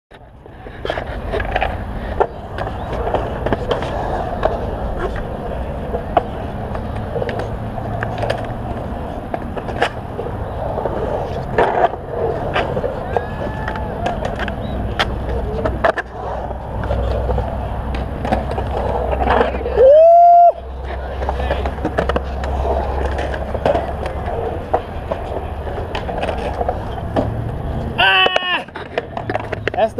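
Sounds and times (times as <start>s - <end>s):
skateboard trucks grinding: 0.1s - 29.9s
skateboard wheels rolling on concrete: 0.1s - 29.9s.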